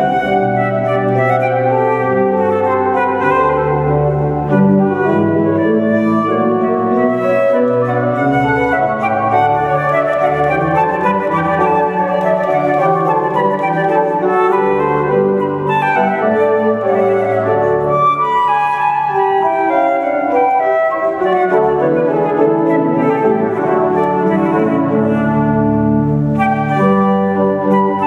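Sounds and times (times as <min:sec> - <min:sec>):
flute melody: 0:00.0 - 0:28.0.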